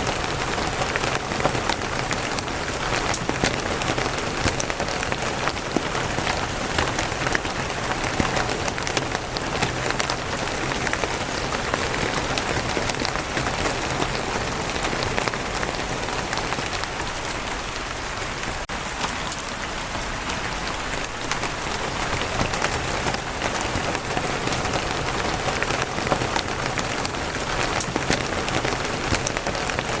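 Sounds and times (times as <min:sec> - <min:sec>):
rain on a wooden roof: 0:00.0 - 0:30.0.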